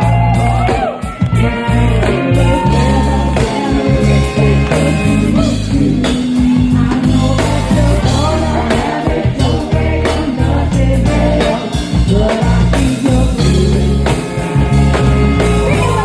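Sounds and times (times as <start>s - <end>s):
drums: 0.0s - 16.0s
guitar: 0.0s - 16.0s
person singing: 0.0s - 16.0s.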